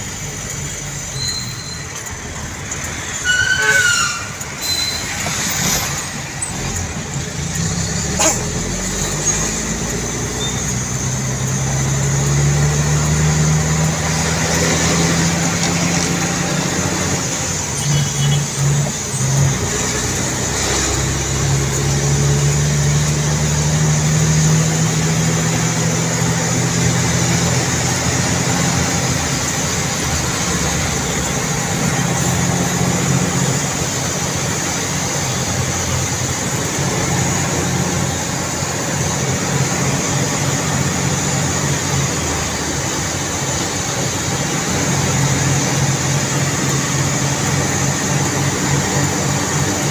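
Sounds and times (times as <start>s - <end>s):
road noise: 0.0s - 49.9s
vehicle engine drone: 0.0s - 49.9s.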